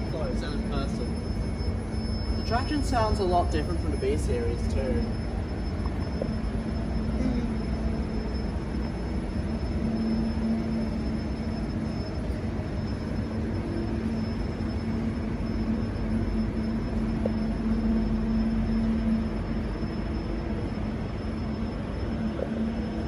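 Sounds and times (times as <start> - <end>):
electric railcar hum: 0.0 - 23.0.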